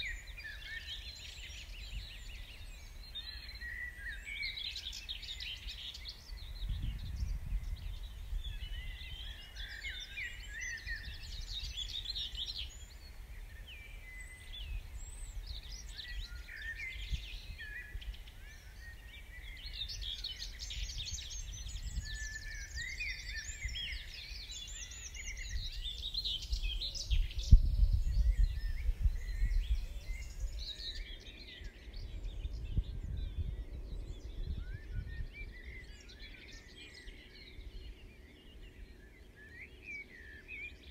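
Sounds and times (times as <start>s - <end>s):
wind rumble on microphone: 0.0s - 39.5s
songbirds singing and calling: 0.0s - 40.9s.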